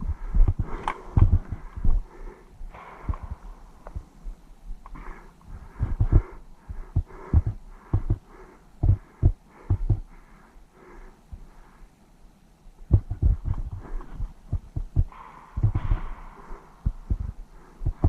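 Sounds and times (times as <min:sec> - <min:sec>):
hard breathing: 0:00.0 - 0:12.2, 0:12.9 - 0:18.0.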